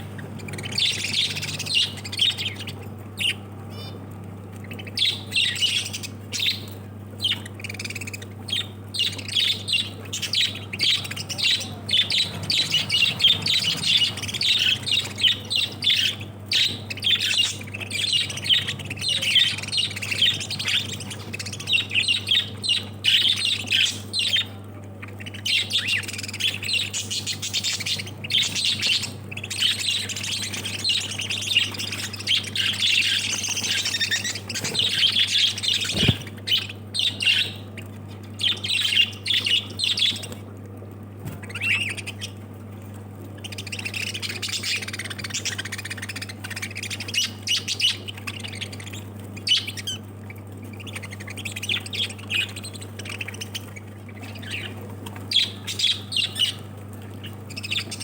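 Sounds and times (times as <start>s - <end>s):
lovebirds chirping and squawking: 0.0s - 40.6s, 41.2s - 58.0s
steady low hum: 0.0s - 58.0s.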